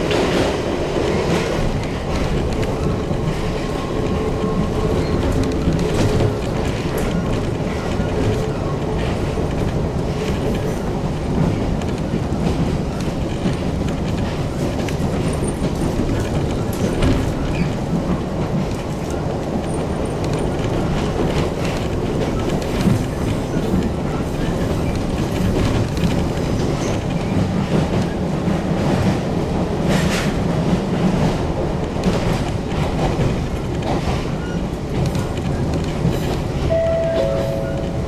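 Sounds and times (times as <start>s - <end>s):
rail-joint clicks: 0.0s - 38.0s
train wheels rumbling on track: 0.0s - 38.0s.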